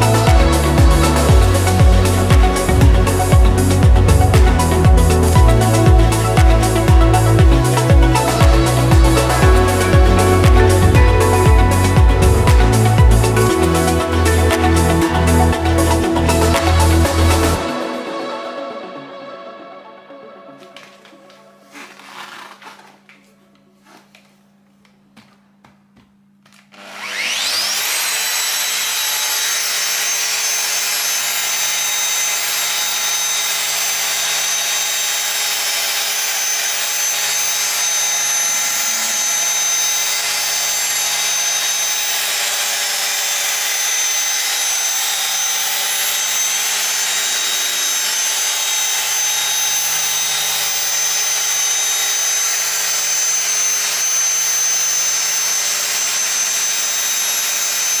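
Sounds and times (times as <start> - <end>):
rotary polisher whining: 0.0 - 19.0, 20.6 - 23.0, 26.5 - 58.0.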